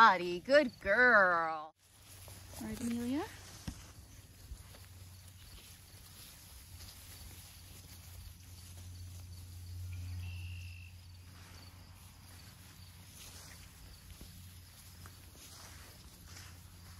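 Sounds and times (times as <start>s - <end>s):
tall grass rustling: 1.8s - 16.9s.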